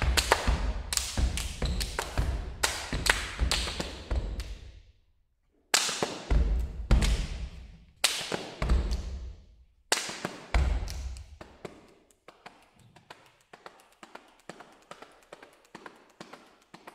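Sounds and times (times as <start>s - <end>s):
hand claps and body slaps: 0.0s - 4.8s, 5.7s - 16.9s.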